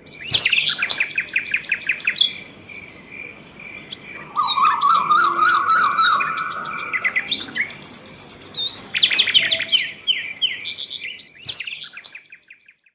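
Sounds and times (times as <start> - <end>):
songbirds singing: 0.0 - 12.9.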